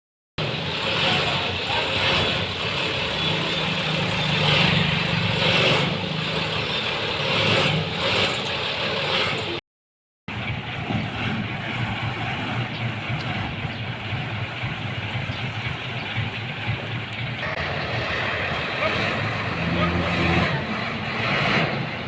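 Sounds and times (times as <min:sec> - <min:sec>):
diesel machinery running: 0:00.4 - 0:09.6, 0:10.3 - 0:22.0.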